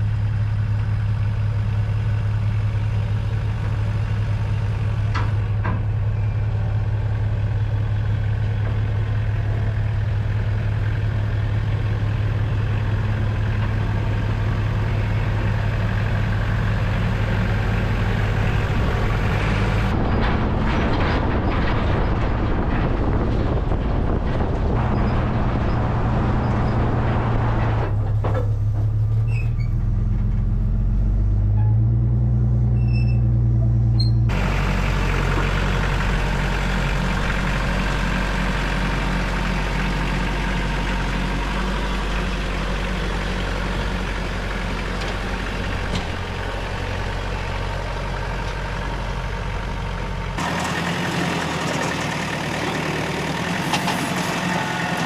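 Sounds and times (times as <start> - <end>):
tractor diesel engine: 0.0 - 55.0
vehicle engine drone: 0.0 - 55.0.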